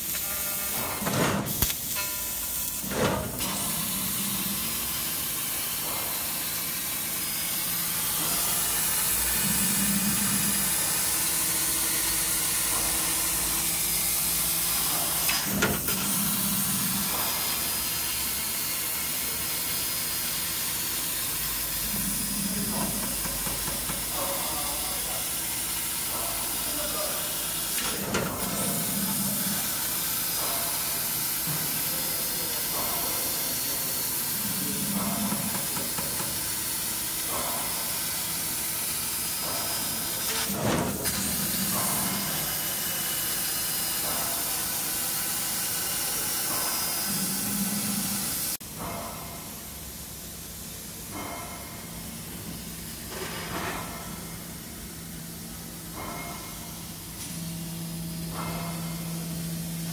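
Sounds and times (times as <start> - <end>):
machine hum: 0.0 - 48.9.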